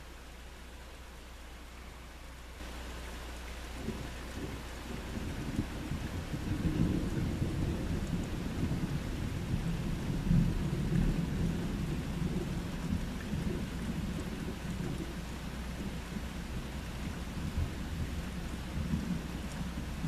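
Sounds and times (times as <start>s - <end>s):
rain falling: 0.0s - 20.0s
low rolling thunder: 3.8s - 20.0s.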